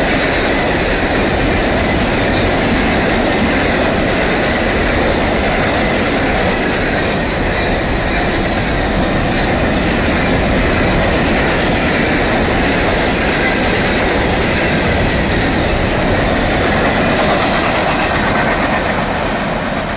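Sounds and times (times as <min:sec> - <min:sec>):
freight train wheels rumbling: 0:00.0 - 0:19.9
rhythmic wheel clacking: 0:00.0 - 0:19.9.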